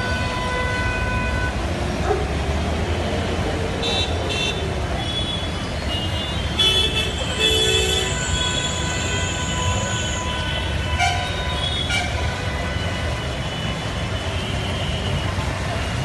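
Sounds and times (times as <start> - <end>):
vehicle horns: 0.0 - 1.6, 3.8 - 15.5
road traffic rumbling: 0.0 - 16.0.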